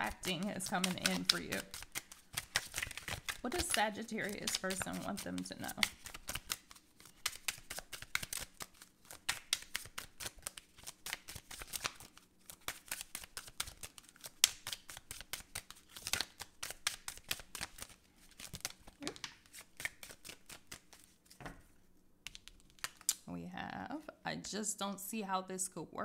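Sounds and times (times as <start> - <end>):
cards being shuffled: 0.0 - 23.2.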